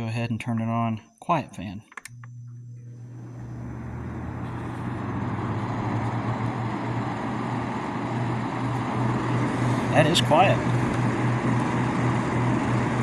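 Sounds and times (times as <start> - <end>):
air conditioner fan rushing air: 2.1 - 13.0
low motor hum: 2.1 - 13.0.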